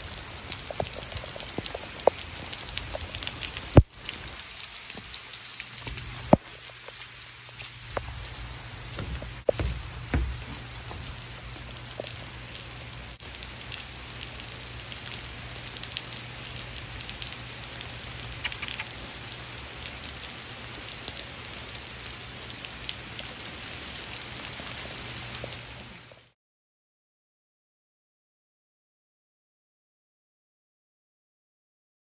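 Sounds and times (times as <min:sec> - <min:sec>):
rain pattering on grass: 0:00.0 - 0:26.3.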